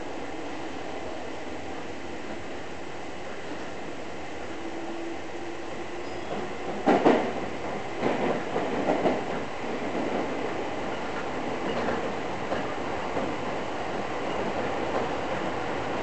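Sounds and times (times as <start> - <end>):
subway train running in tunnel: 0.0 - 16.0.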